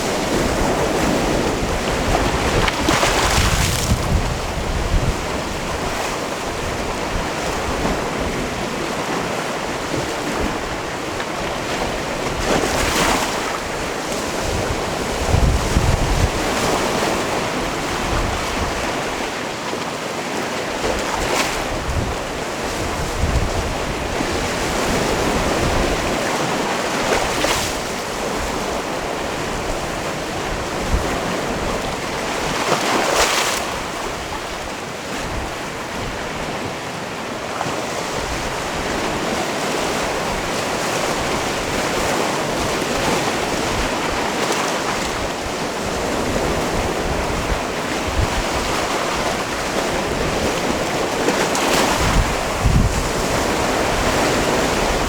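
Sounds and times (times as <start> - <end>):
waves washing onto rocks: 0.0 - 55.0.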